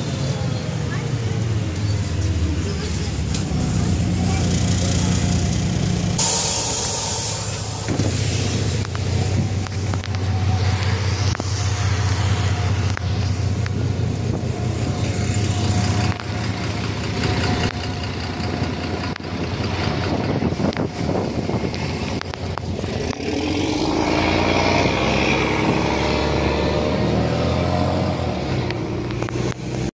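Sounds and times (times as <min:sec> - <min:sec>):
diesel bus engine idling: 0:00.0 - 0:25.8
bus engine revving: 0:00.0 - 0:29.9.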